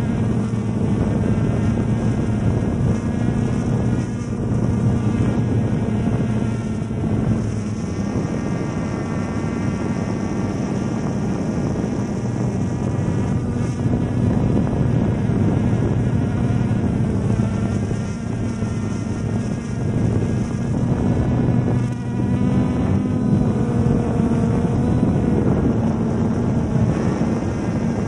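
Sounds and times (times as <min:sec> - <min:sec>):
drone propellers buzzing: 0:00.0 - 0:28.0.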